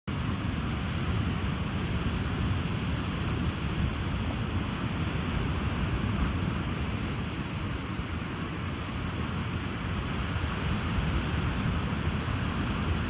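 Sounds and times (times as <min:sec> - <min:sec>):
ocean surf washing onto beach: 0:00.1 - 0:13.0
wind buffeting microphone: 0:00.2 - 0:13.0.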